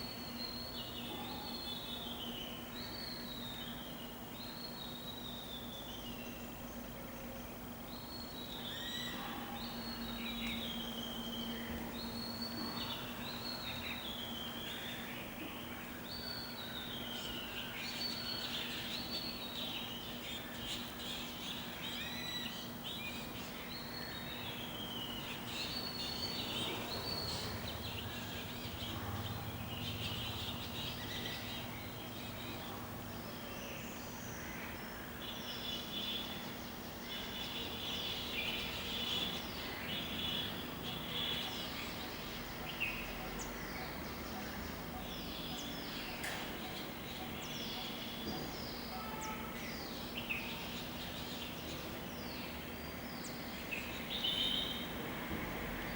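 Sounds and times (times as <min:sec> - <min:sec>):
faint steady hum: 0:00.0 - 0:55.9
birds chirping: 0:08.0 - 0:55.9.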